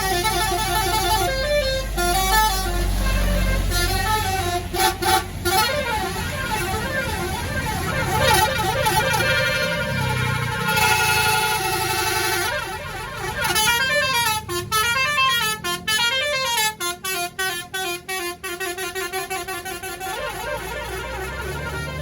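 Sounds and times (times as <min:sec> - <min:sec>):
bus horn playing a tune: 0:00.0 - 0:22.0.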